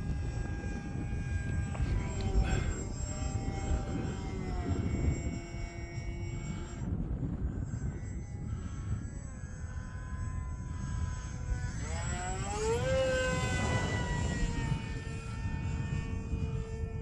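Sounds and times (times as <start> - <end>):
model plane motor whining: 0.0 - 17.0
wind rumble on microphone: 0.0 - 17.0.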